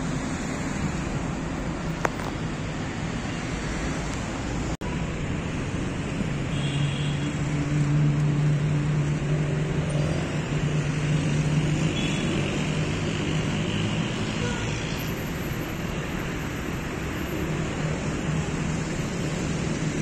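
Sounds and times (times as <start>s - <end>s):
passing cars roar: 0.0s - 20.0s.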